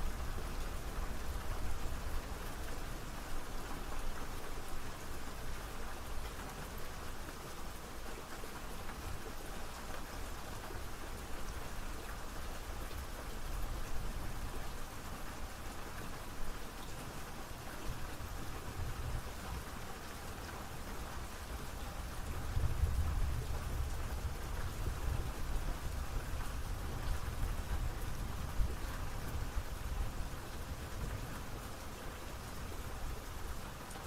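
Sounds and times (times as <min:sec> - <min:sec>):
rain pattering: 0:00.0 - 0:34.0.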